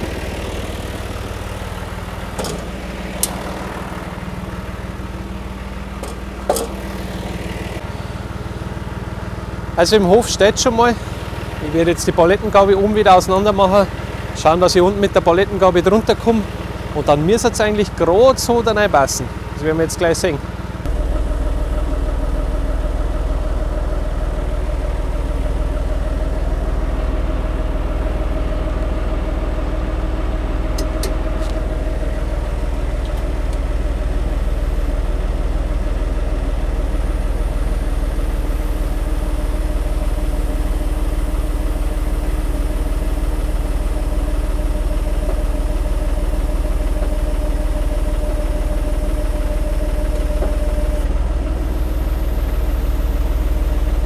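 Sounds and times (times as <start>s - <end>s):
tractor diesel engine rumbling: 0.0s - 54.0s.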